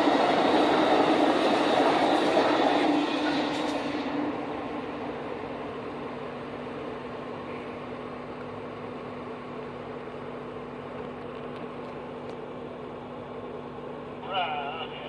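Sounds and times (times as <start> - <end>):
train rumbling and humming: 0.0 - 15.0.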